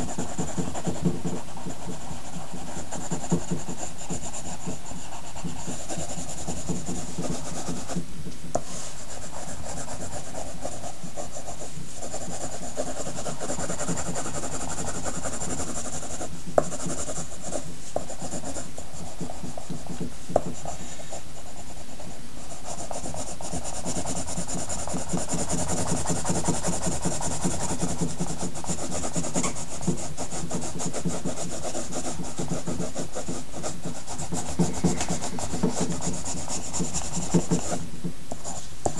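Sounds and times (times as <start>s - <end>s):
pencil scratching on paper: 0.0s - 8.0s, 8.6s - 37.8s
faint steady hum: 0.0s - 38.9s.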